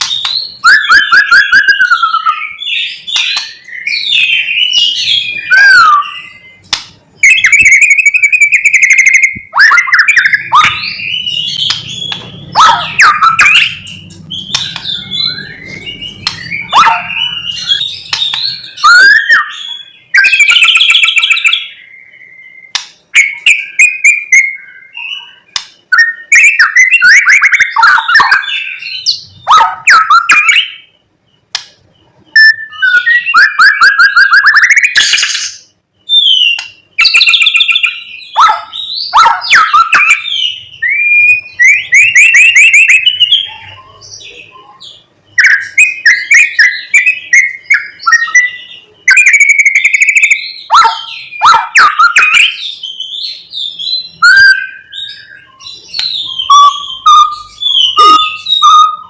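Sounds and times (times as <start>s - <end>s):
songbird singing whistles and trills: 0.0s - 59.0s.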